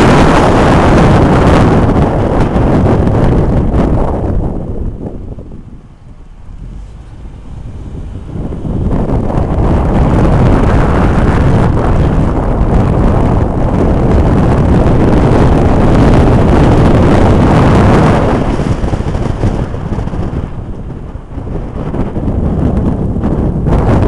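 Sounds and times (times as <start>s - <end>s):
vehicle and road noise: 0.0s - 24.0s
wind buffeting microphone: 0.0s - 24.0s.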